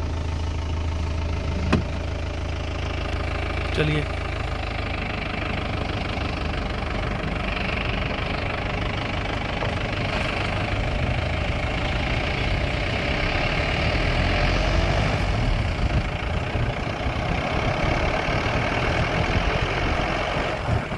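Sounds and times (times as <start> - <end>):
vehicle engine rumble: 0.0 - 20.9.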